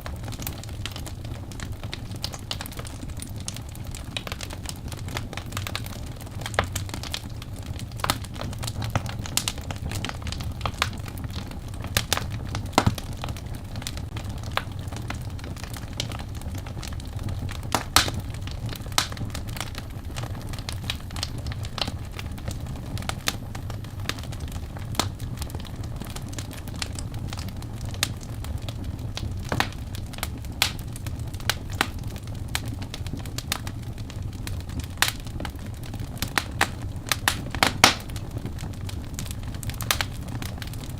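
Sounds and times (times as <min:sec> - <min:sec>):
fire crackling and popping: 0:00.0 - 0:40.9
low rumble of fire: 0:00.0 - 0:40.9.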